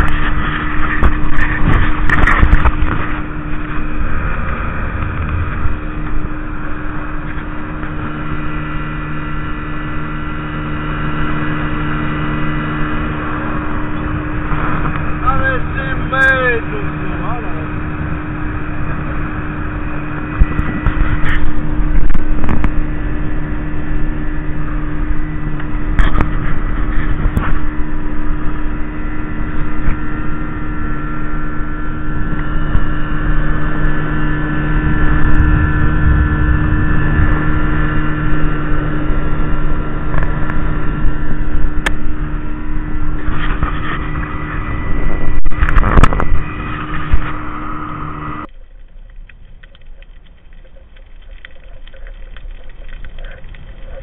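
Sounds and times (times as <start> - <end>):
motorboat engine running: 0.0 - 54.0
rushing water: 0.0 - 54.0
wind: 0.0 - 54.0.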